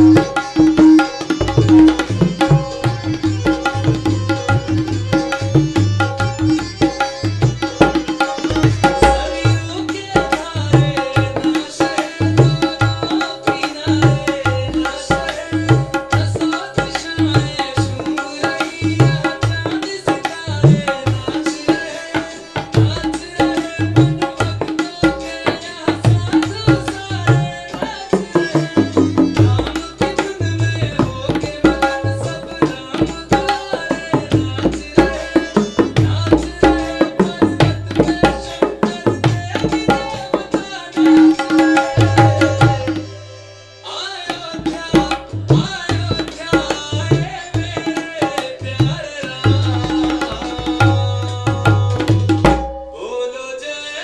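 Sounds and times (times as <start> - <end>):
tabla rapid ringing strokes: 0.0 - 43.3, 44.3 - 53.0.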